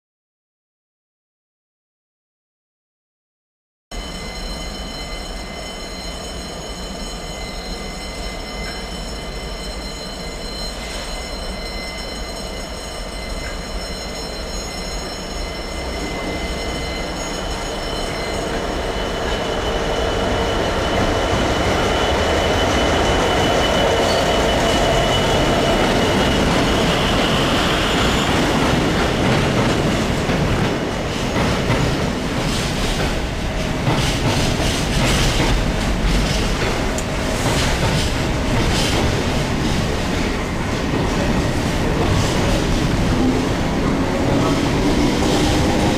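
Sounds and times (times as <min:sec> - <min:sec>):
diesel locomotive engine: 0:04.0 - 0:45.9
train wheels on rails: 0:04.0 - 0:45.9.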